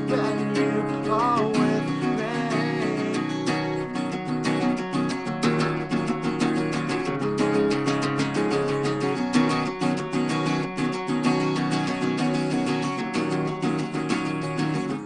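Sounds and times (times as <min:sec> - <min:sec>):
guitar strummed: 0:00.0 - 0:15.0.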